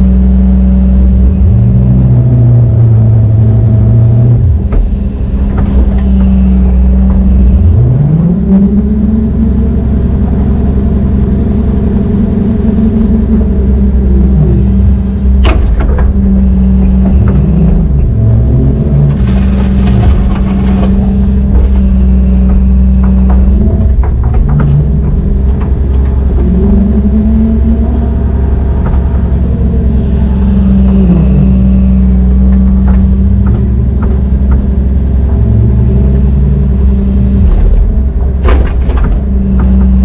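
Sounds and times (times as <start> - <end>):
diesel machinery engine running: 0.0 - 40.0.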